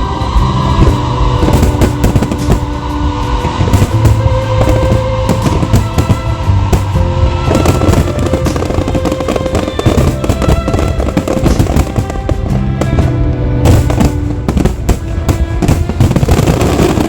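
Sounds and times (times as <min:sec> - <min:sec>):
fireworks bursting: 0:00.0 - 0:17.0
music playing: 0:00.0 - 0:17.0.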